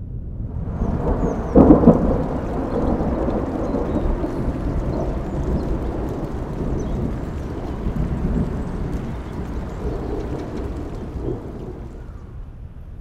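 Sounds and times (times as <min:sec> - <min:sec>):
thunder rumbling and clapping: 0:00.2 - 0:12.5.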